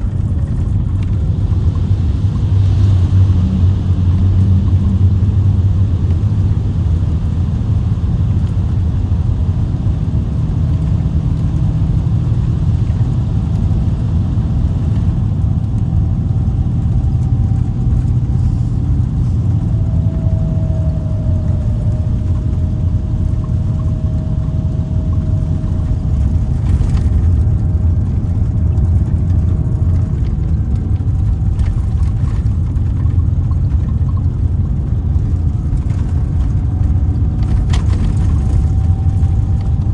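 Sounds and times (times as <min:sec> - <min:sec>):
diesel engine rumbling: 0:00.0 - 0:39.9
faint whine: 0:00.0 - 0:39.9.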